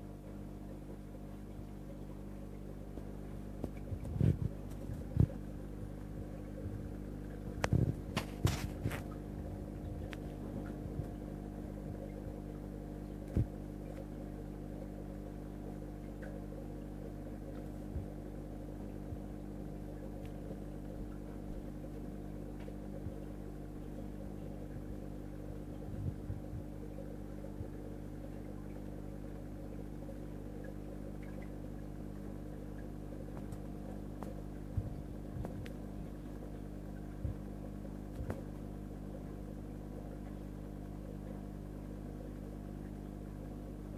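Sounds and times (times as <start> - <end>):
aquarium pump electrical hum: 0.0 - 43.9.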